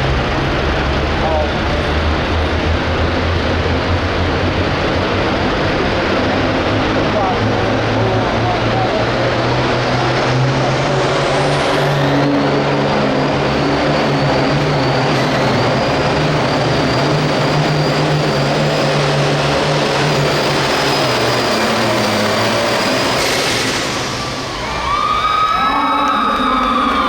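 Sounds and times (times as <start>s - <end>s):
diesel tractor engine running hard: 0.0s - 27.0s.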